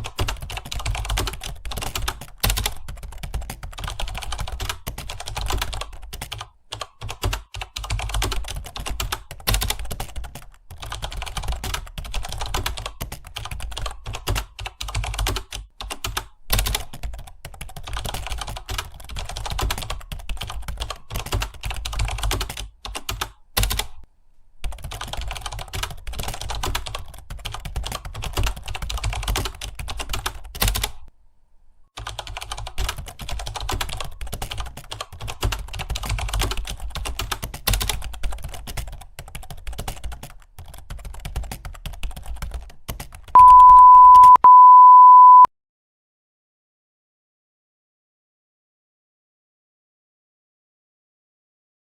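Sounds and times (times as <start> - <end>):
fast keyboard typing: 0.0 - 24.0, 24.6 - 31.1, 32.0 - 45.4.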